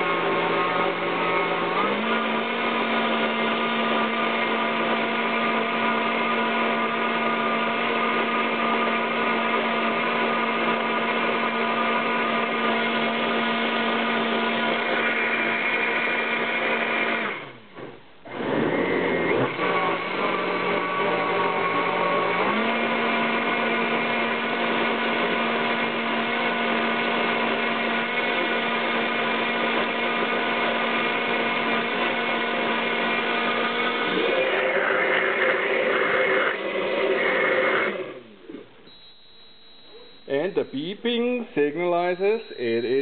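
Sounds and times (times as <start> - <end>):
blender motor running: 0.0 - 40.9, 41.8 - 43.0.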